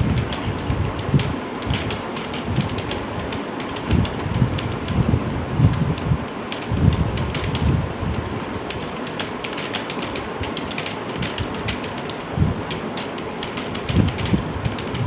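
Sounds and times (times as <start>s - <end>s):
typing on a keyboard: 0.0s - 5.0s, 6.0s - 7.8s, 8.6s - 15.0s
steady hiss: 0.0s - 15.0s.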